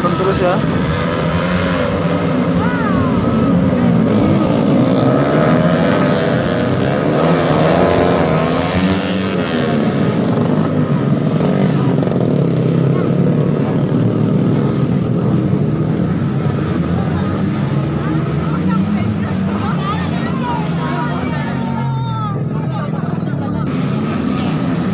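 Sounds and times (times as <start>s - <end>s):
motorcycle engines revving: 0.0s - 24.9s.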